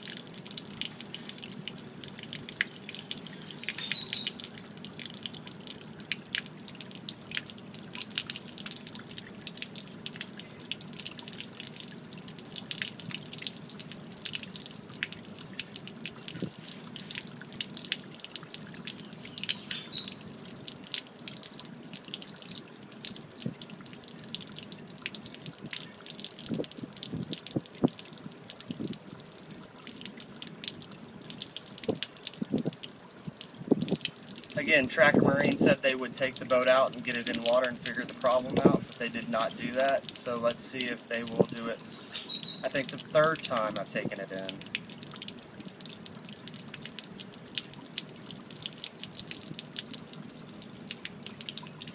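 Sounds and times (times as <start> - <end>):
water splashing onto pavement: 0.0 - 51.9.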